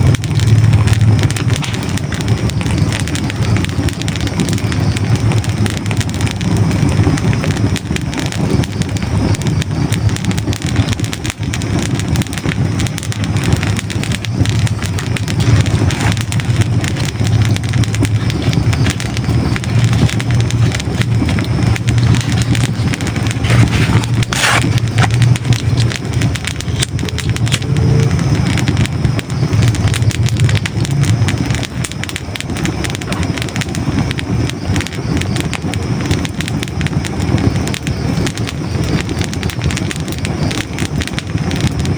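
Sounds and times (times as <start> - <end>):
logs crackling in a fireplace: 0.0 - 41.9
low rumble: 0.0 - 41.9.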